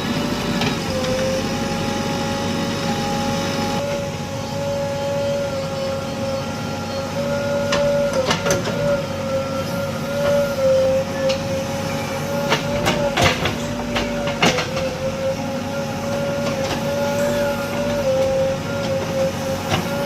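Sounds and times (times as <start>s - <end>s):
diesel engine whining under work: 0.0s - 20.0s.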